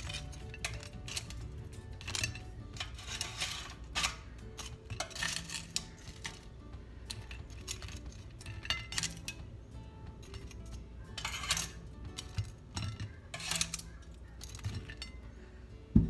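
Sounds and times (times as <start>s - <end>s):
metal tongs clinking and scraping: 0.0s - 15.3s.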